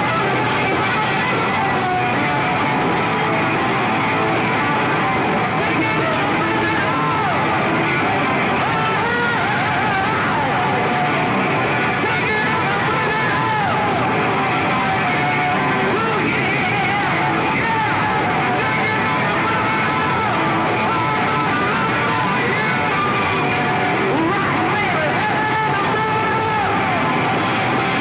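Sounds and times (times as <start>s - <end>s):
live rock band playing: 0.0s - 28.0s
sliding lead guitar line: 0.0s - 28.0s.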